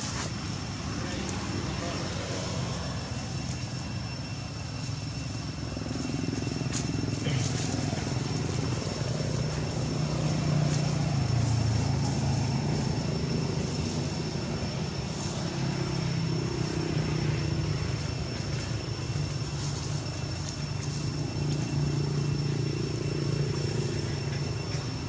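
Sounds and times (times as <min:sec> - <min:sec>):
low engine drone: 0:00.0 - 0:25.0.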